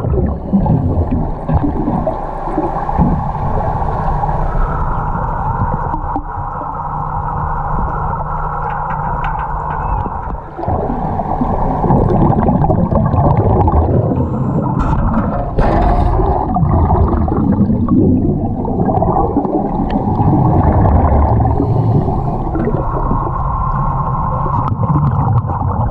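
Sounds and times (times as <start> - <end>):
water gurgling and bubbling: 0.0 - 9.2, 9.8 - 25.9
low underwater rumble: 0.0 - 25.9.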